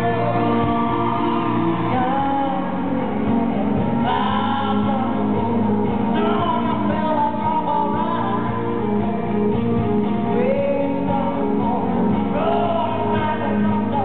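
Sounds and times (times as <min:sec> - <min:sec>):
live band playing: 0:00.0 - 0:14.0
singers holding long notes: 0:00.0 - 0:14.0.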